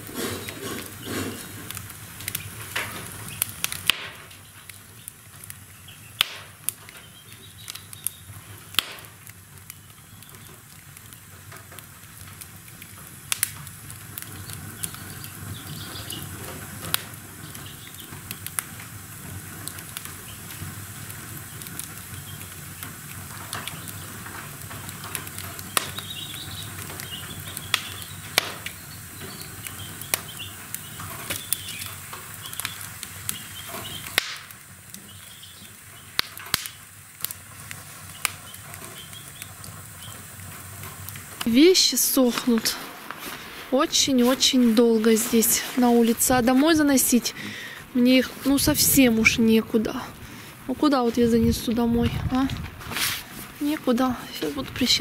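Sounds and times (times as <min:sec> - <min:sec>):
fire crackling and popping: 0:00.0 - 0:55.0
fire flames rushing: 0:00.0 - 0:55.0.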